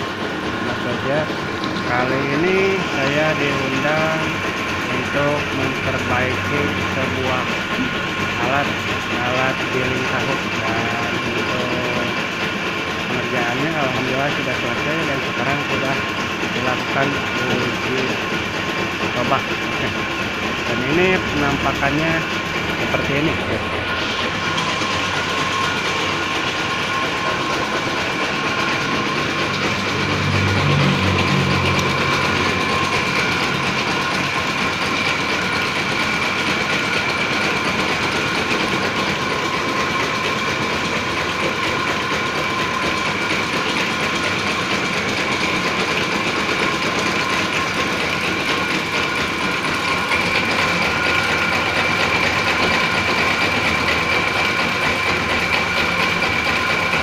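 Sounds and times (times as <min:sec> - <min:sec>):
machine whining: 0:00.0 - 0:57.0.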